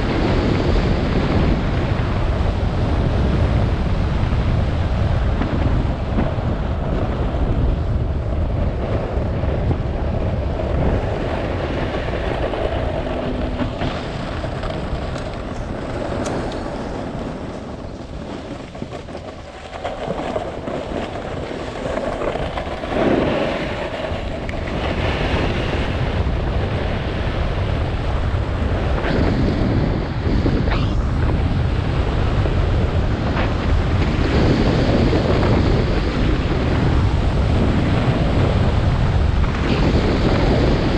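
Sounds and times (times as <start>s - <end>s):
snowboard scraping over snow: 0.0s - 40.9s
wind buffeting microphone: 0.0s - 40.9s.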